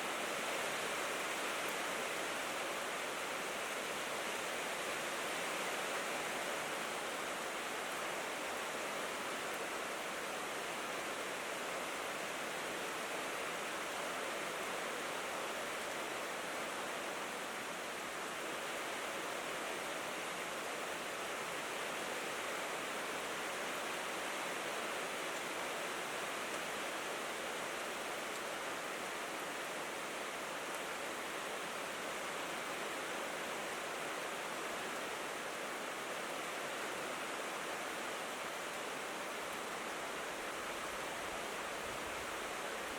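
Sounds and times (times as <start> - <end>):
rain on a tin roof: 0.0 - 42.9.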